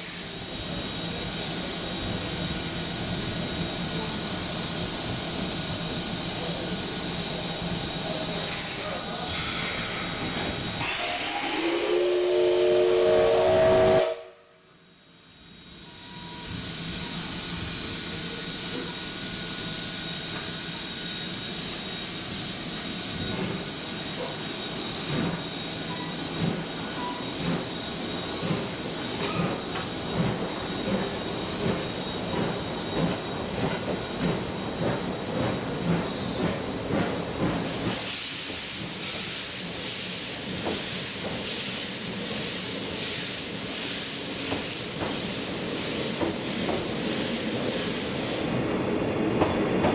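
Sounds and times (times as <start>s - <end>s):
low train rumble: 0.0s - 49.9s
steam locomotive hissing: 0.0s - 49.9s.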